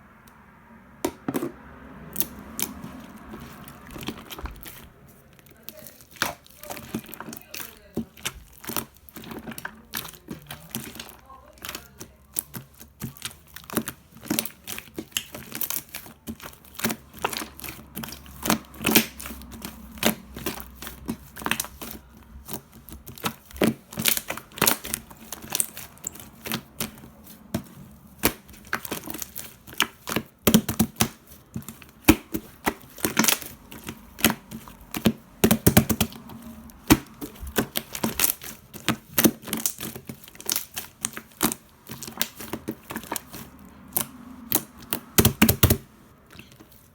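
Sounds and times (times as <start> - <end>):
slime clicking and popping: 2.0 - 46.7.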